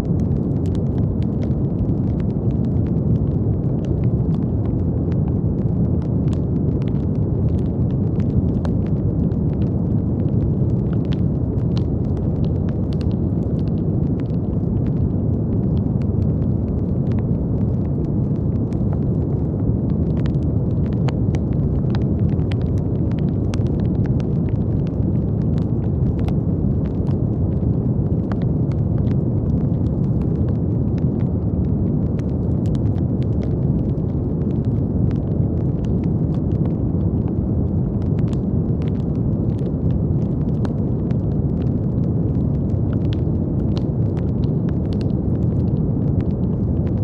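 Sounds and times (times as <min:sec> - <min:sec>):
brown noise: 0:00.0 - 0:47.0
faint crackling clicks: 0:00.0 - 0:47.0.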